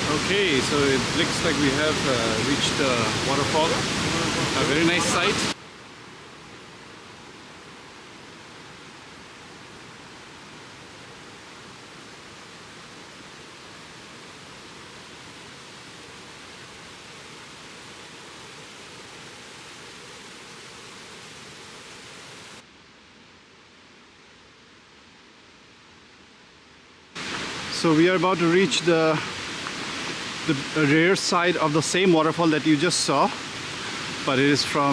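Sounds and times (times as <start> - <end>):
waterfall rushing: 0.0 - 22.6, 27.2 - 34.9.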